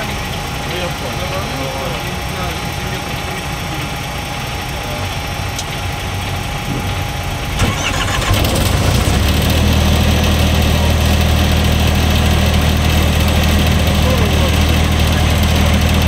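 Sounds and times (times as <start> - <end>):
diesel engine starting and droning: 0.0 - 16.0
engine running steadily: 0.0 - 16.0.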